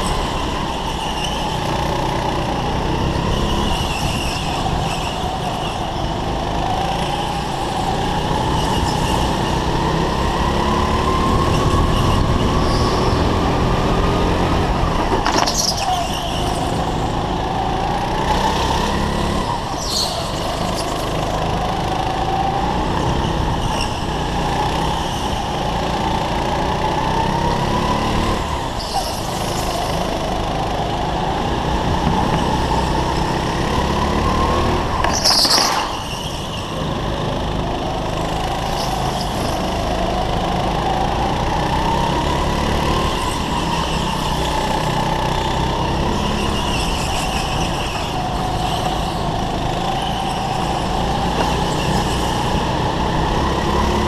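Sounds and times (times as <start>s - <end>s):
go-kart engine revving: 0.0s - 54.0s
high-pitched squeals: 0.0s - 54.0s.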